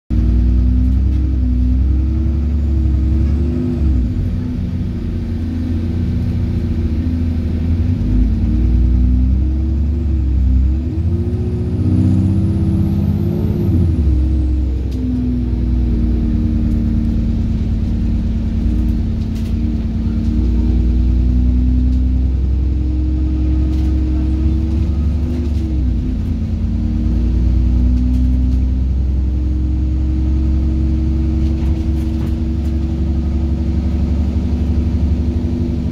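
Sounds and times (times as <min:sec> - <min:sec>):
bus diesel engine humming: 0:00.1 - 0:35.9.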